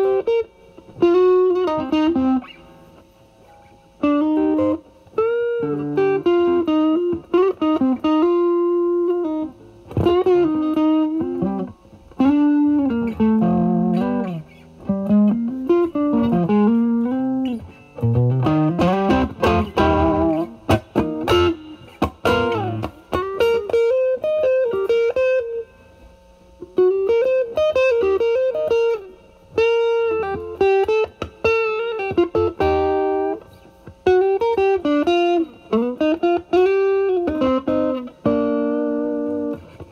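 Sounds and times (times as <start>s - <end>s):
overdriven electric guitar blues lead: 0.0s - 39.9s.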